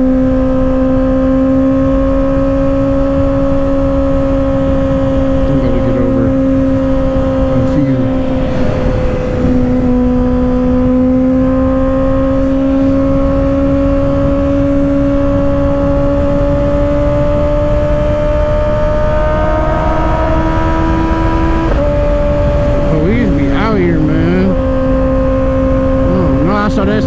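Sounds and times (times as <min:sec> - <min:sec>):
motorcycle engine accelerating: 0:00.0 - 0:27.0
heavy wind noise: 0:01.5 - 0:27.0.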